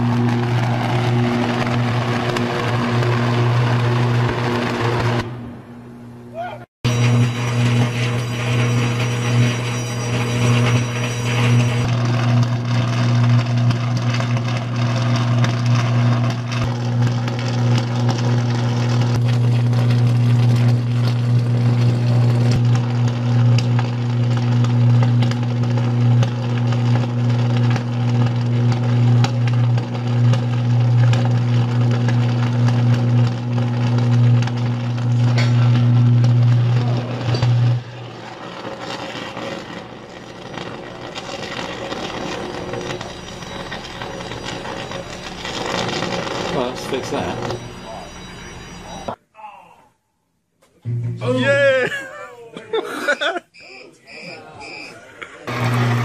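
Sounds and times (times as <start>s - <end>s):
electrical arc buzzing and crackling: 0.0s - 5.4s, 6.8s - 49.2s.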